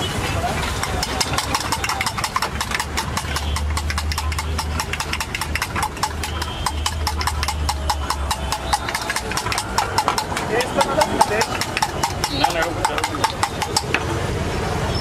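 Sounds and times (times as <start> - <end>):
utensil clinking in metal bowl: 0.6 - 14.1.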